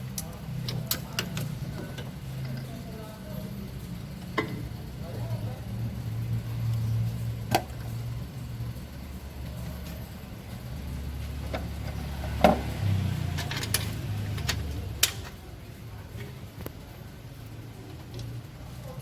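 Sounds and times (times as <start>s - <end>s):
low engine hum: 3.2s - 19.0s.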